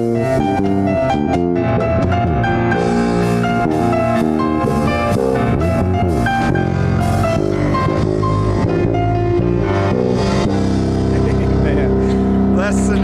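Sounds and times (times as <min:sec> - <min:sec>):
keyboard holding chords: 0:00.0 - 0:13.0.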